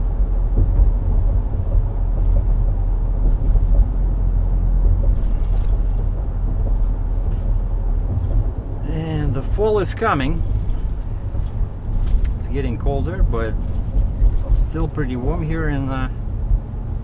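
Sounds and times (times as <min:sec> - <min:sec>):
engine and road rumble in cab: 0:00.0 - 0:17.0.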